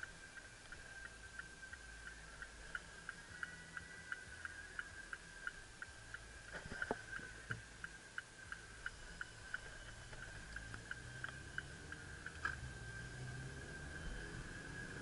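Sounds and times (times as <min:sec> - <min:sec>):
high thin ticking tone: 0:00.0 - 0:14.8
car engine rumble and road noise: 0:00.0 - 0:15.0.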